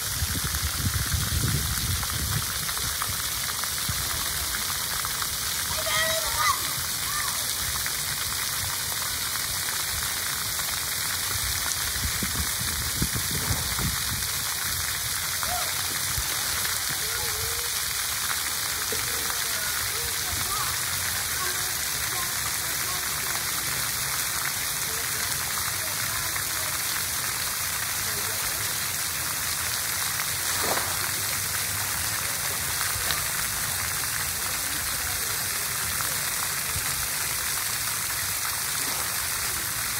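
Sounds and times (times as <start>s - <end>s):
fountain jets spraying water: 0.0s - 39.9s.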